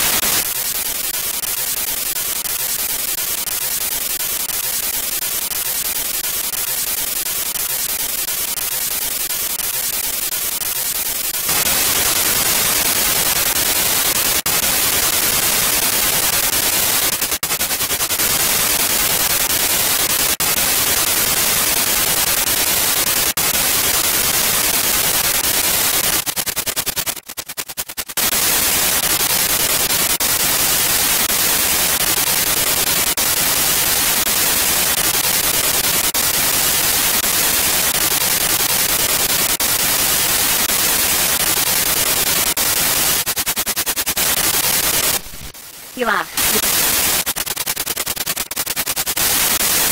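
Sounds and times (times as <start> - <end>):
radio static hiss: 0.0 - 49.9.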